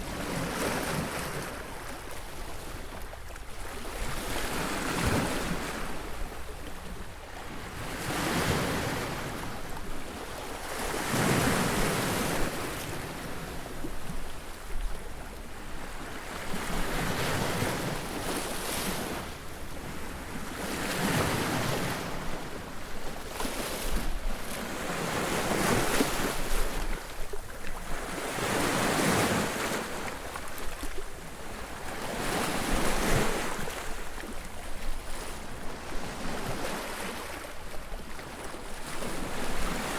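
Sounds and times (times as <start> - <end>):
sea waves breaking on beach: 0.0 - 6.7, 7.4 - 39.9.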